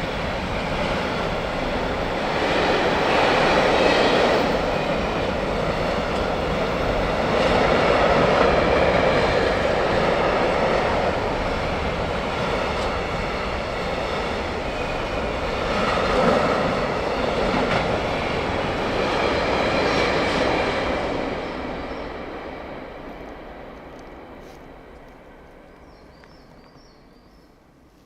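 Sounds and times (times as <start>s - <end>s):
train running on rails: 0.0s - 28.0s.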